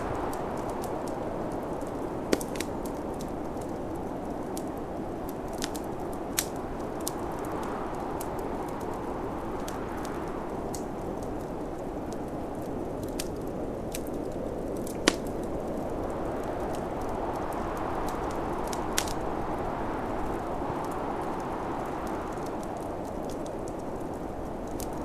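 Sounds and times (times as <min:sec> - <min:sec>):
snowstorm wind rushing: 0:00.0 - 0:25.0
wood fire crackling and popping: 0:00.0 - 0:25.0.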